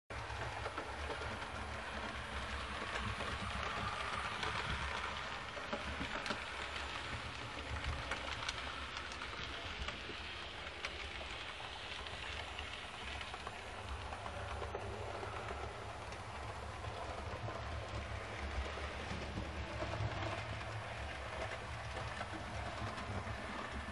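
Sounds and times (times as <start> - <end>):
model train wheels rattling on rail: 0.1 - 23.9.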